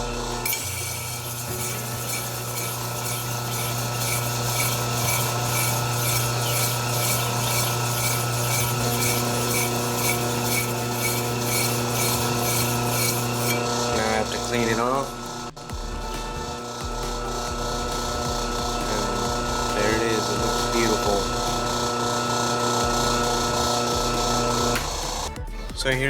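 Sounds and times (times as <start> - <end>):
blade scraping on abrasive wheel: 0.0 - 25.3
sharpening wheel motor hum: 0.0 - 25.4.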